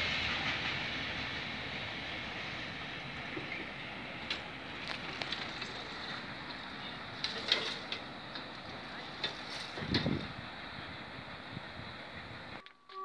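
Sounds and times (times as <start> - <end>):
freight train rumble: 0.0 - 12.6.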